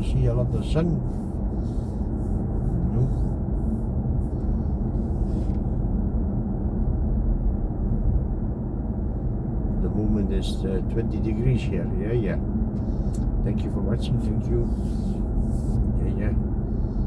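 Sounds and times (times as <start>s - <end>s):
road and tyre rumble in car cabin: 0.0s - 17.0s.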